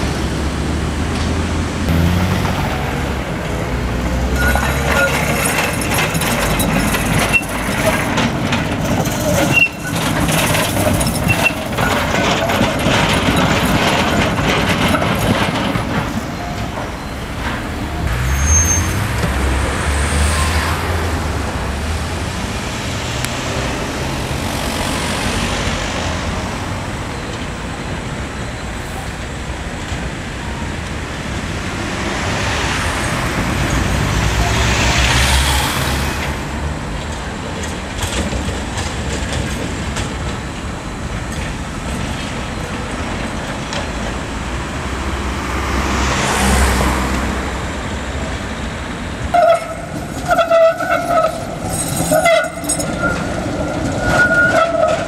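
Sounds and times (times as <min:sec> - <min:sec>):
tram passing: 0:00.0 - 0:55.0.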